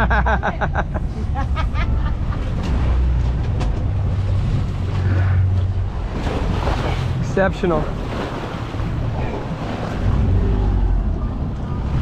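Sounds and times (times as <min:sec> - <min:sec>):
water rushing past hull: 0:00.8 - 0:12.0
outboard motor running: 0:01.0 - 0:12.0.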